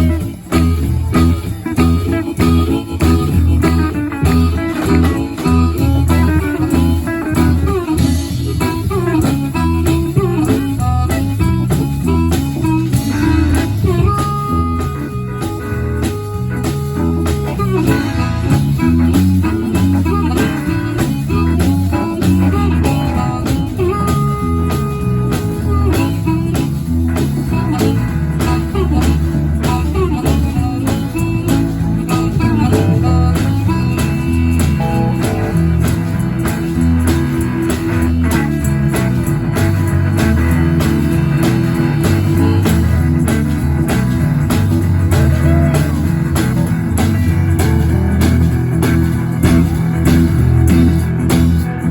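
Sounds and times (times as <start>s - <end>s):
bass line: 0.0s - 51.9s
blues guitar: 0.0s - 51.9s.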